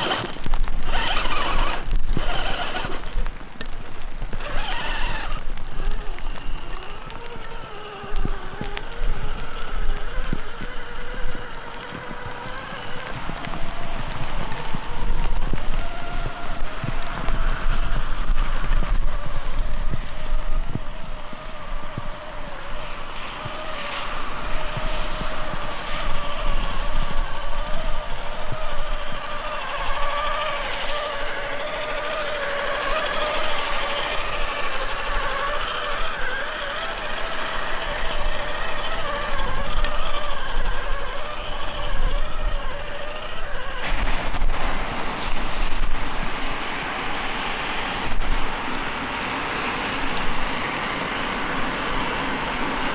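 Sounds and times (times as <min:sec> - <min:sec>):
electric motor whine: 0:00.0 - 0:52.9.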